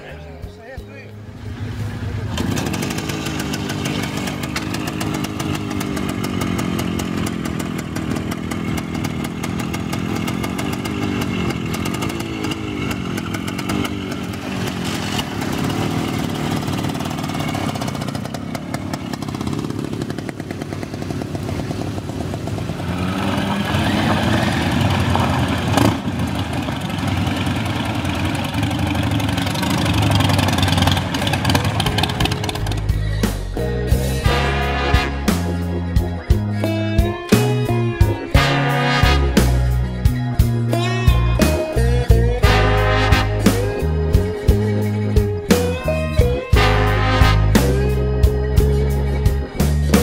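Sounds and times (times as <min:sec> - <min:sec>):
motorcycle engine idling and revving: 0:01.2 - 0:50.0
motorcycles pulling away: 0:01.2 - 0:50.0.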